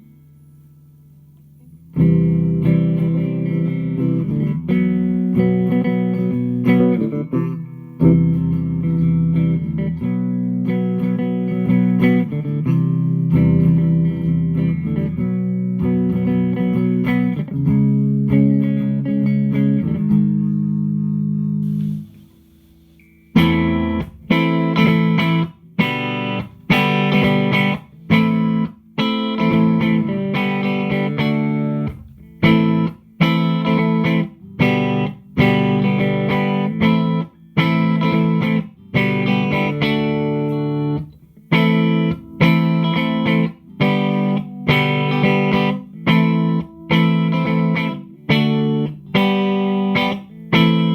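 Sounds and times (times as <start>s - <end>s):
electric guitar chords: 0.0s - 50.9s.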